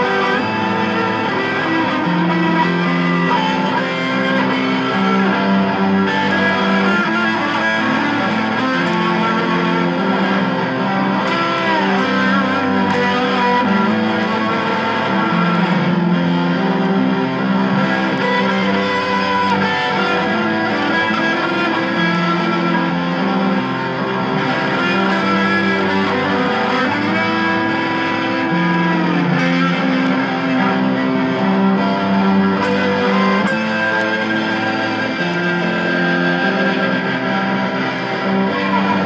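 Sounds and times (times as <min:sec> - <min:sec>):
electric guitar: 0:00.0 - 0:39.0.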